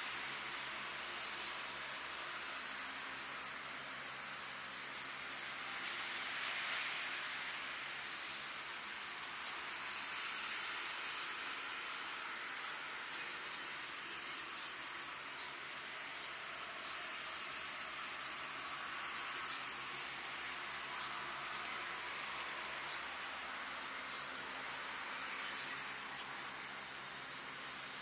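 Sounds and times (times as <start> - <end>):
distant surf on beach: 0.0 - 28.0.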